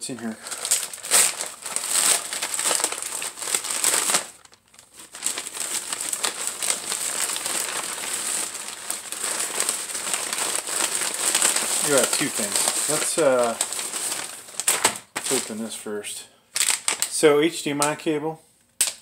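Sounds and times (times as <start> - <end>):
plastic mailer bag crinkling: 0.0 - 15.7, 16.6 - 18.0.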